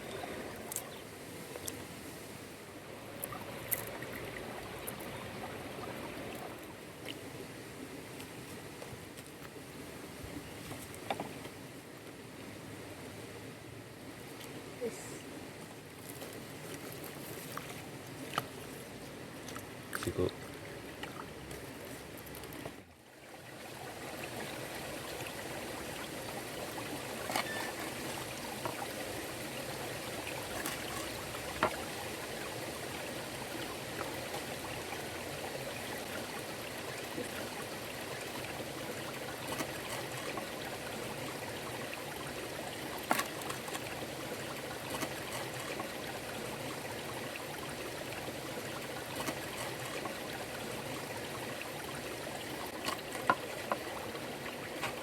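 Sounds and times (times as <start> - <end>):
running water: 0.0 - 9.0, 14.1 - 55.0.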